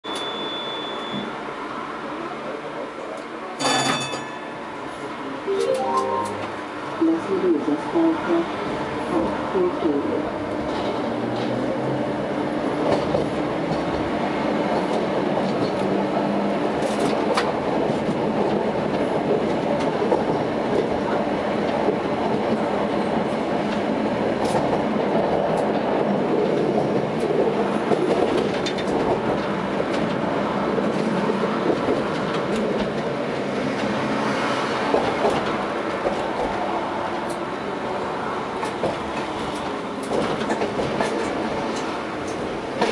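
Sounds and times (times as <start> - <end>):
tram wheels rumbling on rail: 6.5 - 42.9.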